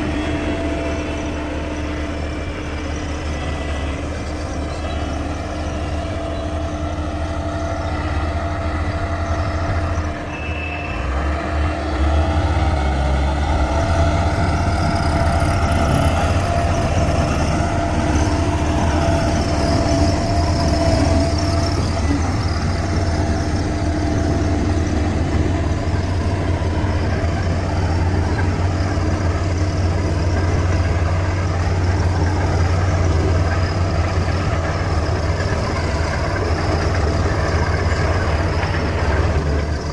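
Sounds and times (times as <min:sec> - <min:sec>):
heavy machine diesel engine with whine: 0:00.0 - 0:39.9.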